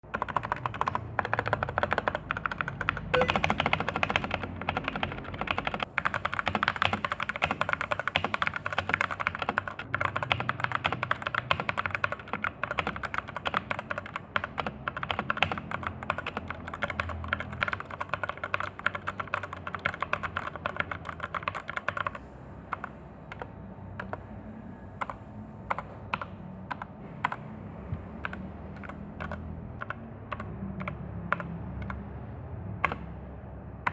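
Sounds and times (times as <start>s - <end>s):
mechanical keyboard typing: 0.0s - 24.2s, 25.0s - 27.4s, 28.2s - 32.0s, 32.8s - 33.2s.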